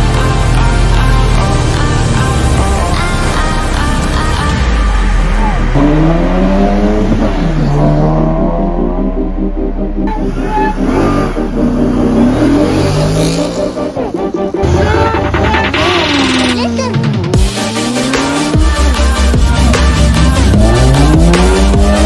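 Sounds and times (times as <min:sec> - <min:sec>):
engines revving: 0:00.0 - 0:22.0.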